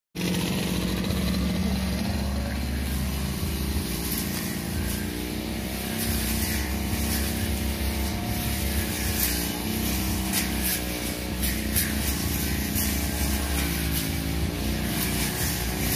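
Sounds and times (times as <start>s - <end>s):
brush cutter engine drone: 0.2s - 15.9s.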